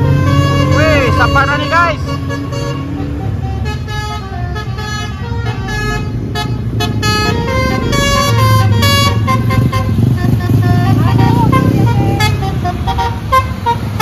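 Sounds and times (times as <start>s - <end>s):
motorbike and car engines: 0.0s - 14.0s
multi-tone bus horn melody: 0.0s - 14.0s.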